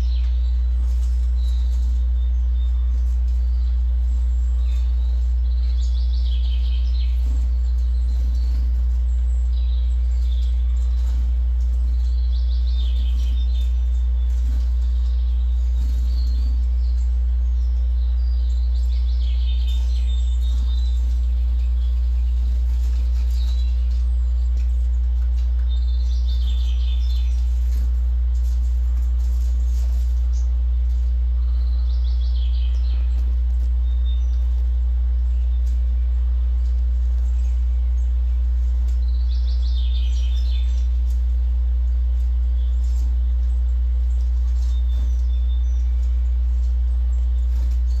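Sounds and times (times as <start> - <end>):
recorded birdsong chirping: 0.0 - 48.0
steady low hum: 0.0 - 48.0.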